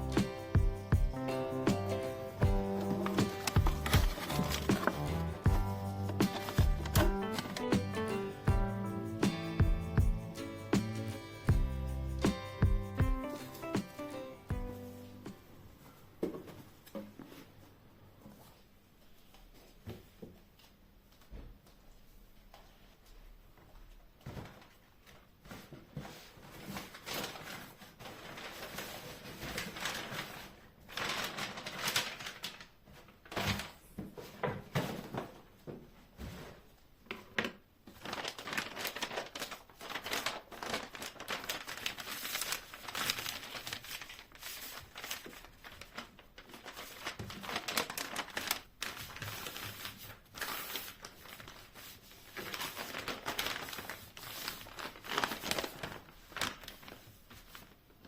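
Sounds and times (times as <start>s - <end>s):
crinkling and rustling material: 2.2s - 8.1s, 13.2s - 58.0s.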